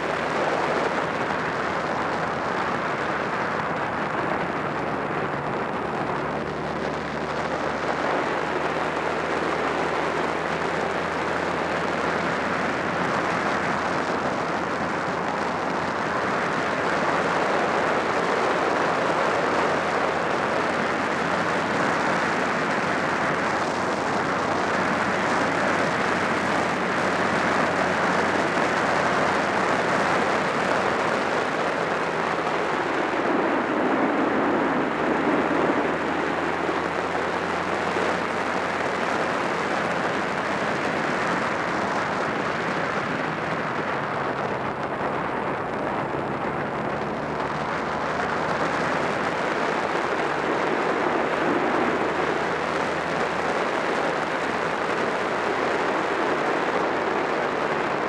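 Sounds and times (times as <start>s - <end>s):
motorcycle engine cruising: 0.0s - 58.0s
wind on microphone: 0.0s - 58.0s.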